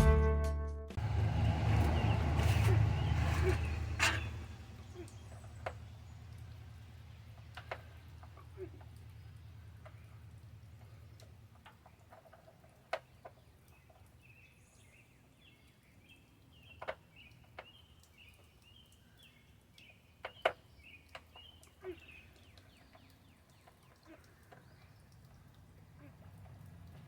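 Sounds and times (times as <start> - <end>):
bird chirping: 1.0 - 26.4.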